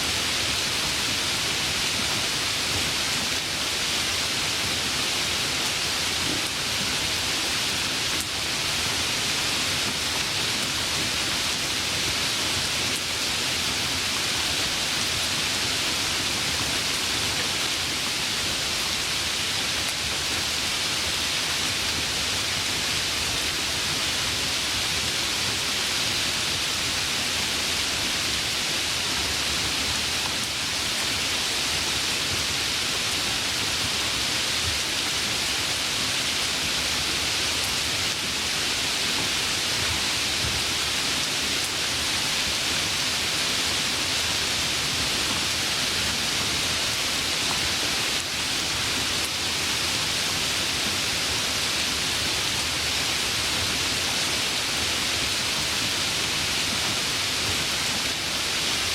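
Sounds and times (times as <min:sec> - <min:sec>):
steady rain hissing: 0:00.0 - 0:58.9.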